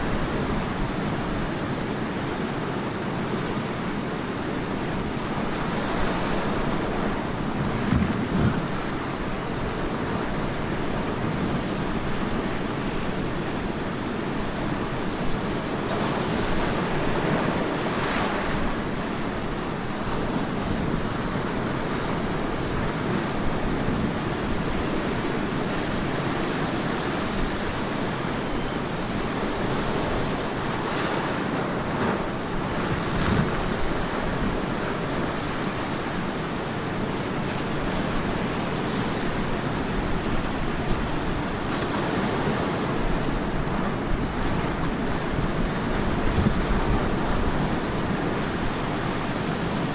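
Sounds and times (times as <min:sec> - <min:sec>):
ocean waves breaking: 0:00.0 - 0:49.9
wind on the microphone: 0:04.4 - 0:49.9.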